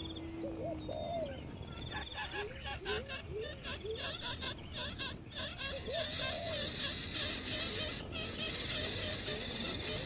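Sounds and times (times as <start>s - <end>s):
nestling birds calling: 0.0s - 10.0s.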